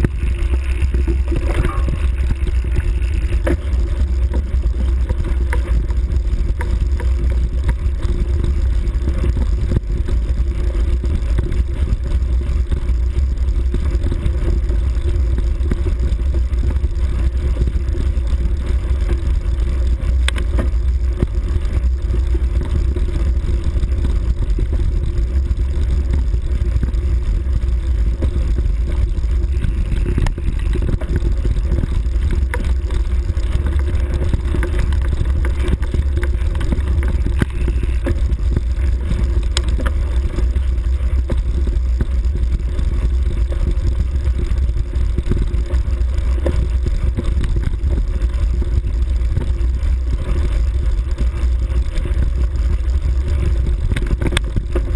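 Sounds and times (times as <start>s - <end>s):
small knocks and rattles: 0.0s - 54.9s
vehicle rumble: 0.0s - 54.9s.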